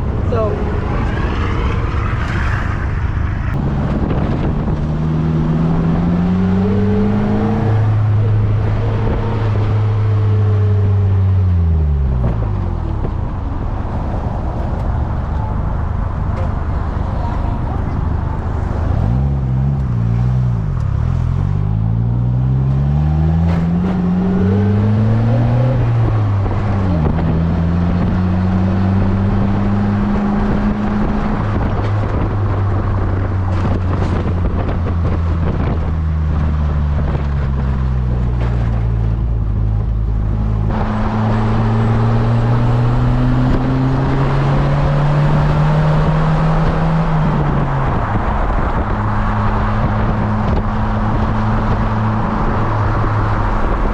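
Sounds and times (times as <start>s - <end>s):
car engine accelerating: 0.0s - 53.9s
road and wind noise: 0.0s - 53.9s.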